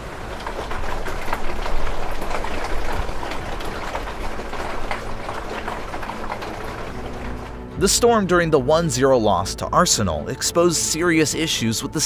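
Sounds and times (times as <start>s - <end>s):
rainwater rushing: 0.0s - 12.0s
water splashing and pattering: 0.0s - 12.0s.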